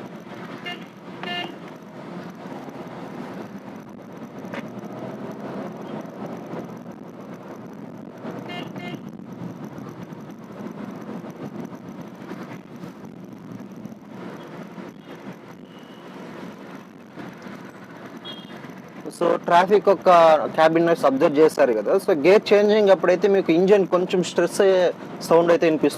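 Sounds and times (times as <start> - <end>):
car engine running: 0.0 - 21.2
road and tyre noise: 0.0 - 25.9.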